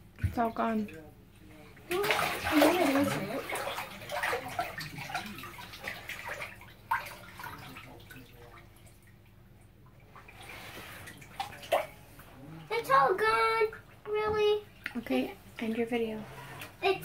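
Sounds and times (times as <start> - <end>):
bathwater sloshing and splashing: 0.0 - 17.0.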